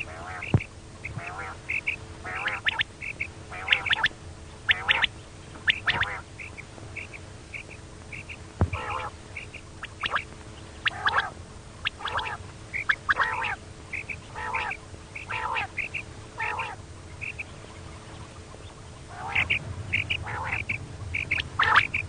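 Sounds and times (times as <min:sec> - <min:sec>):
quail rasping call: 0:00.0 - 0:22.0.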